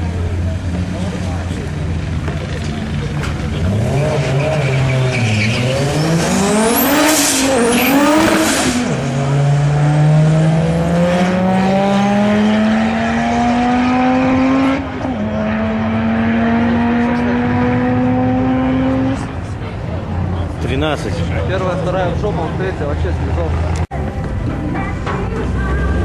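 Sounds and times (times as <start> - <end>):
car engine at full throttle: 0.0 - 24.8.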